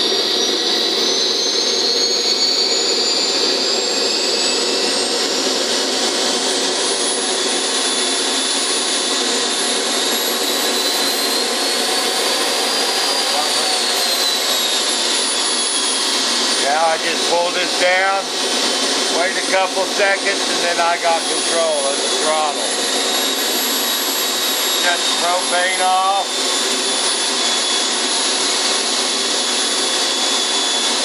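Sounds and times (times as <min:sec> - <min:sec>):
model gas turbine whining: 0:00.0 - 0:31.0.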